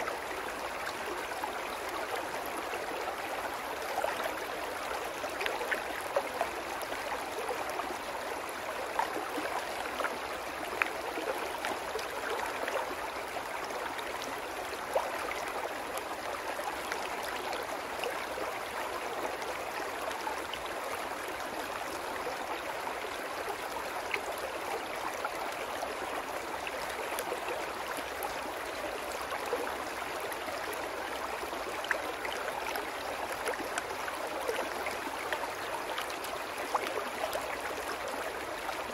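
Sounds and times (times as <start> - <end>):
brook babbling over rocks: 0.0 - 38.9.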